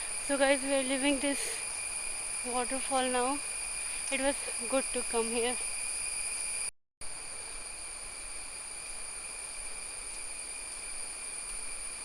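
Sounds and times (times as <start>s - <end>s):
high-pitched insect drone: 0.0s - 12.0s
soft outdoor hiss: 0.0s - 12.0s.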